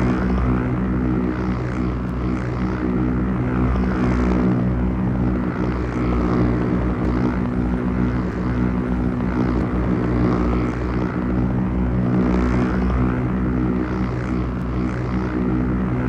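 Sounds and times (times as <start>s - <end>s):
lightsaber humming drone: 0.0s - 16.0s.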